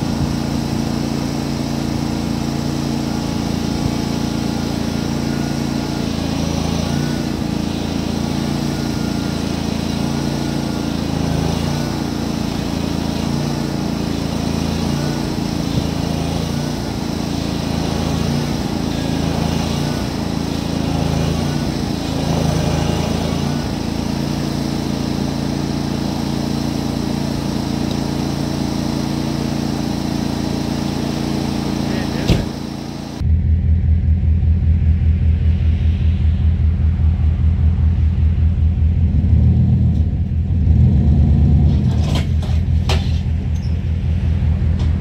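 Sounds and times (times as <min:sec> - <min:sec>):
lawn tractor engine under load: 0:00.0 - 0:33.3, 0:37.8 - 0:45.0.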